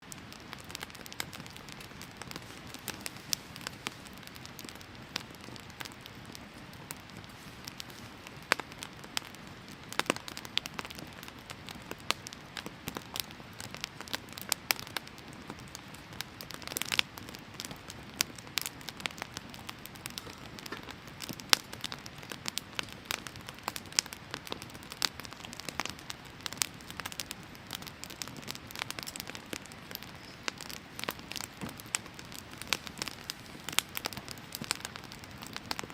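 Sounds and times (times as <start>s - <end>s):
fire crackling and popping: 0.0s - 35.9s
fire hiss: 0.1s - 35.9s.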